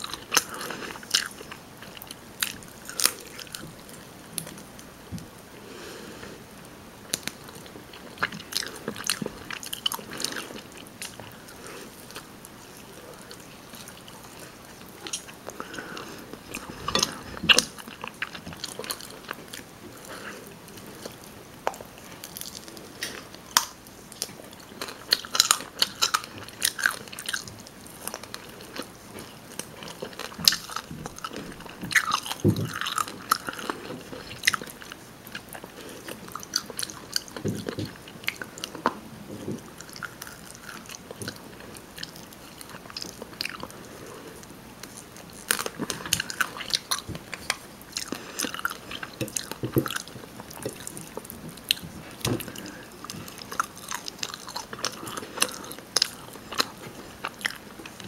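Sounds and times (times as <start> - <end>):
wet chewing: 0.0 - 4.9, 7.1 - 58.0.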